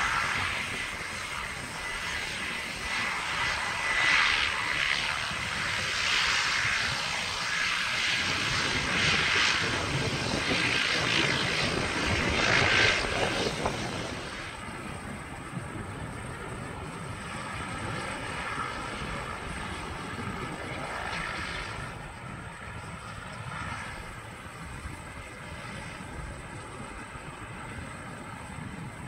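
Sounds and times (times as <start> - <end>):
turboprop engines running: 0.0 - 29.0.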